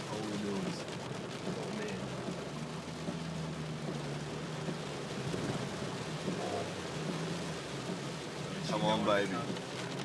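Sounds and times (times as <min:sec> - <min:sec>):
rush of rain and water: 0:00.0 - 0:10.0.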